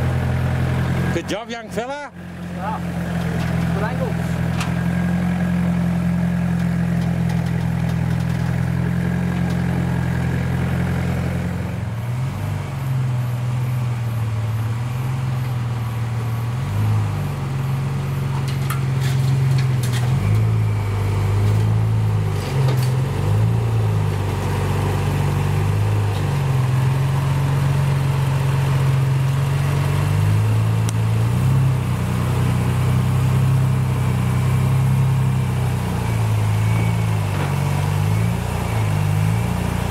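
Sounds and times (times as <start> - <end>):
engine crawling at low revs: 0.0 - 39.9
pickup engine running: 0.0 - 39.9.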